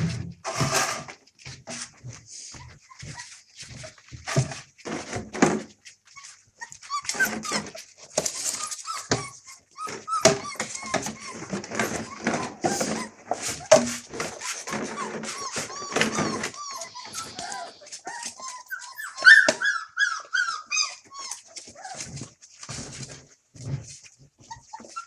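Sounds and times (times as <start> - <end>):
puppies whining and yapping: 2.0 - 25.0.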